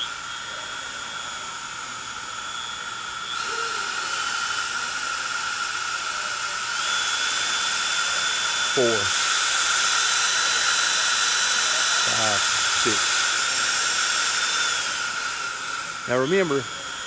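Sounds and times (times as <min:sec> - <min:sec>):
router motor whining: 0:00.0 - 0:17.0.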